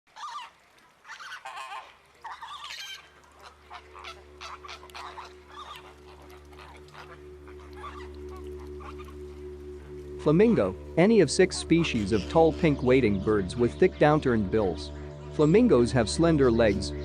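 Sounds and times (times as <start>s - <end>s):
flamingos honking: 0.1s - 17.0s
low music drone: 3.2s - 17.0s.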